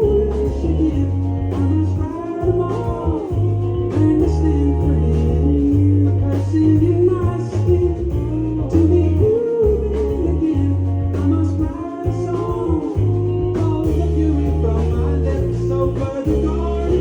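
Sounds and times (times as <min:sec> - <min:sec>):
bass line: 0:00.0 - 0:17.0
guitar: 0:00.0 - 0:17.0
person singing: 0:00.0 - 0:17.0.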